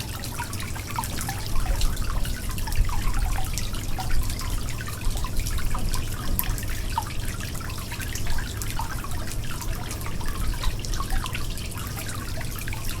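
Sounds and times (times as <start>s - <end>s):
water dripping: 0.0s - 13.0s
water trickling: 0.0s - 13.0s.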